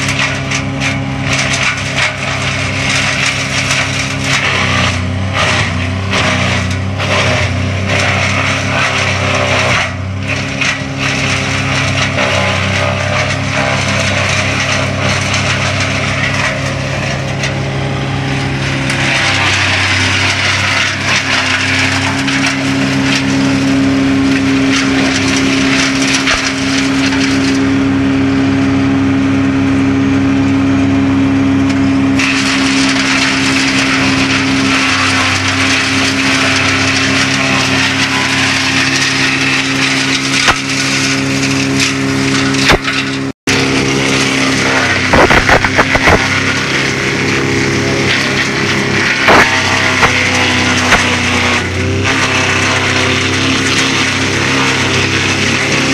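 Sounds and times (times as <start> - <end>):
wood cracking and splintering: 0.0 - 27.8, 32.2 - 55.9
diesel engine running: 0.0 - 55.9.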